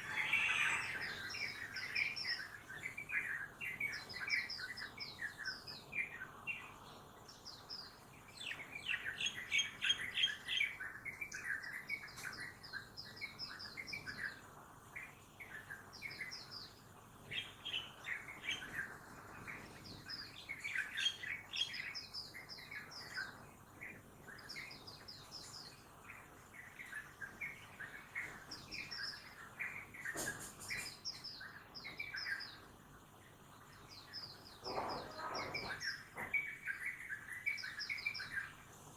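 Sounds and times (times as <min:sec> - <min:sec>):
faint steady background hum: 0:00.0 - 0:38.9
small birds singing and chirping: 0:00.0 - 0:38.9.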